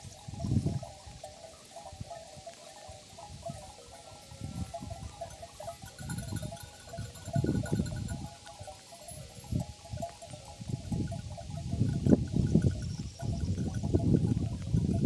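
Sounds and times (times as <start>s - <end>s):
sheep bells clinking: 0.0s - 15.0s.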